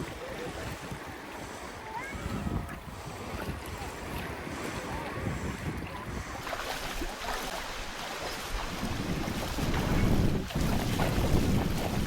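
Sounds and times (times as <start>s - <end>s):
water lapping around kayak: 0.0s - 12.0s
wind buffeting microphone: 0.0s - 12.0s.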